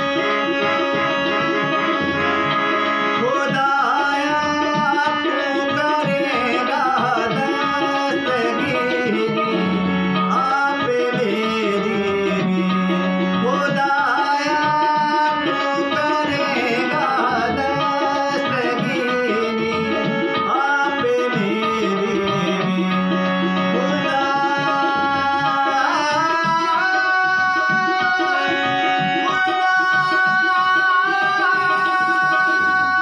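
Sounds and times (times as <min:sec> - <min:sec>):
harmonium melody: 0:00.0 - 0:33.0
man singing: 0:00.0 - 0:33.0
tabla rhythm: 0:00.0 - 0:33.0.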